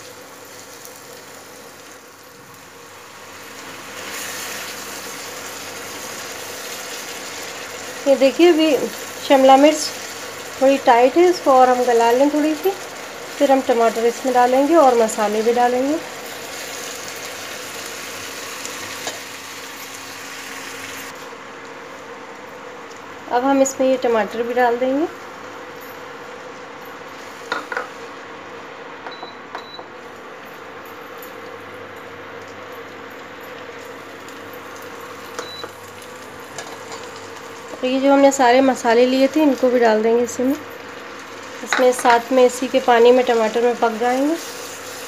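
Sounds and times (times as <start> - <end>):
vegetables sizzling in oil: 0.0 - 28.4, 33.5 - 45.0.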